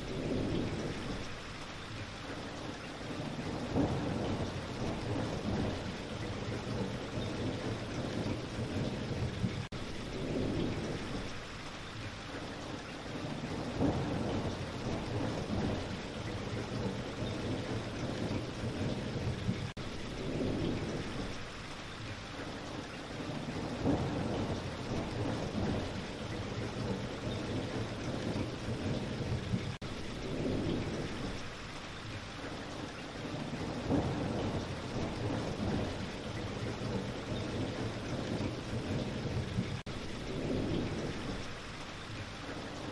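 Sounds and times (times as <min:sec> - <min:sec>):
distant thunder rumbling: 0:00.0 - 0:01.4, 0:02.6 - 0:11.5, 0:12.6 - 0:21.5, 0:22.6 - 0:42.9
steady rain falling: 0:00.0 - 0:42.9.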